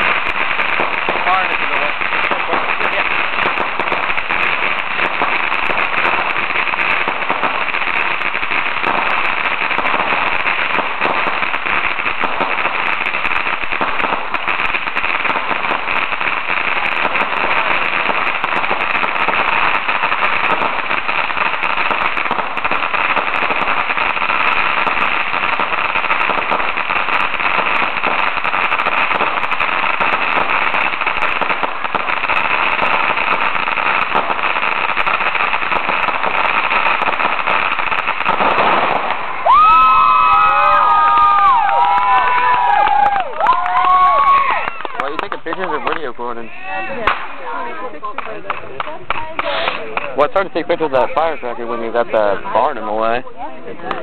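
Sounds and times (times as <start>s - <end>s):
firecrackers popping: 0.0s - 54.0s.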